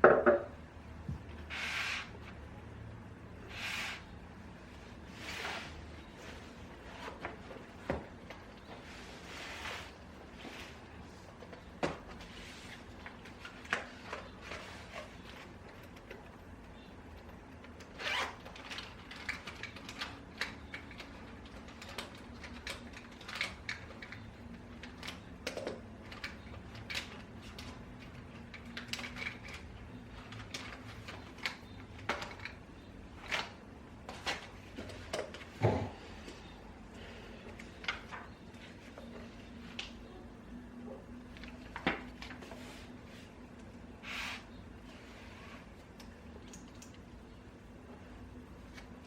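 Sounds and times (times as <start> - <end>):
faint room hum: 0.0 - 49.0.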